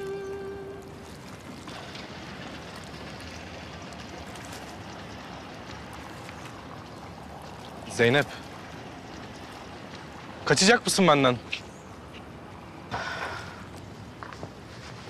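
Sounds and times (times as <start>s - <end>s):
water washing in harbour: 0.0s - 15.0s.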